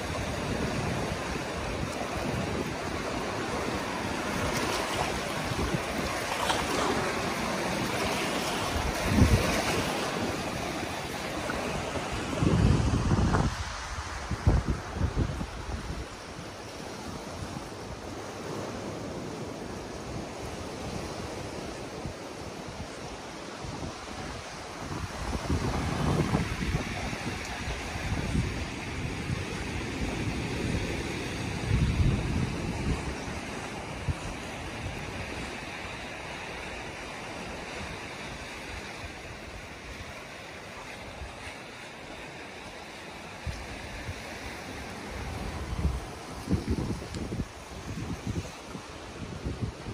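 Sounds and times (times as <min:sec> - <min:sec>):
wind buffeting microphone: 0:00.0 - 0:40.2, 0:43.3 - 0:49.9
sea surf washing on sand: 0:00.0 - 0:49.9.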